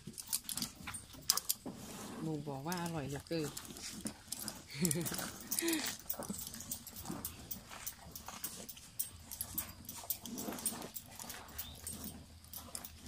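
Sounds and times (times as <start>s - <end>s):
cow chewing with wet crunching: 0.0s - 13.0s.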